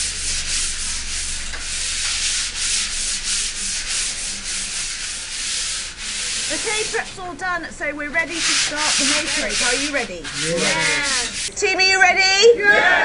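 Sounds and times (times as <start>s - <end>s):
sanding block scratching plaster: 0.0s - 7.2s, 8.1s - 11.5s.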